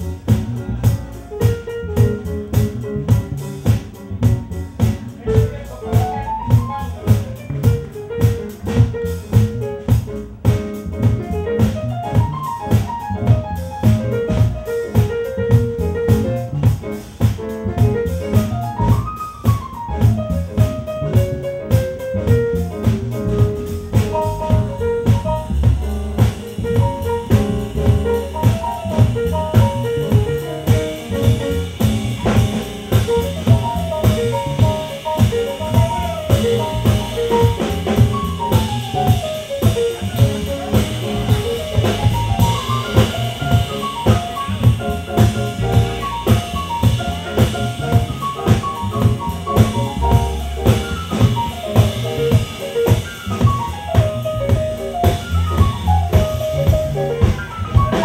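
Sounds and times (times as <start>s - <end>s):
jazz-funk band playing: 0.0s - 58.0s.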